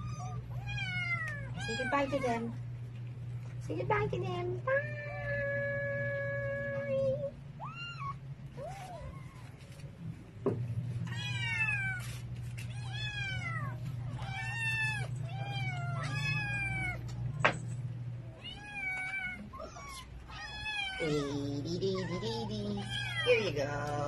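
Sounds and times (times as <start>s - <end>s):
kittens and cats meowing: 0.0s - 2.6s, 4.8s - 9.9s, 10.9s - 24.0s
steady low hum: 0.0s - 24.0s.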